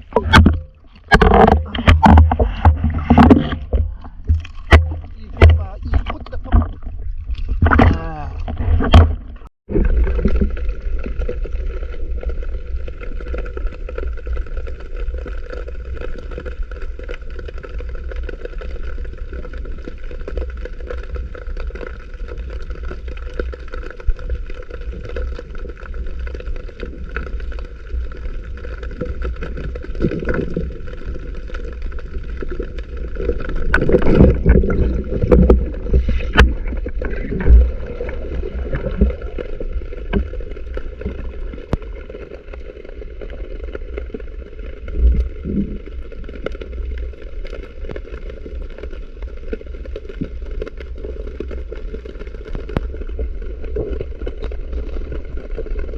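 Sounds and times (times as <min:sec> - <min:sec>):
sea water sloshing and gurgling: 0:00.0 - 0:55.9.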